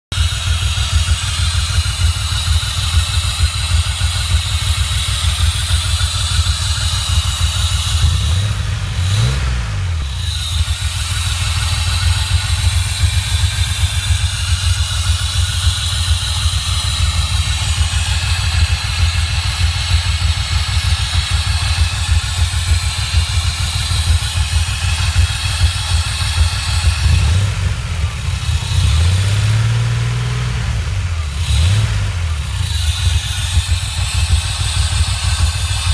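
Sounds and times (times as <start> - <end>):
car engine running: 0.0 - 35.9
high steady whine: 0.1 - 35.9
metallic grinding noise: 0.2 - 30.2, 31.3 - 35.9.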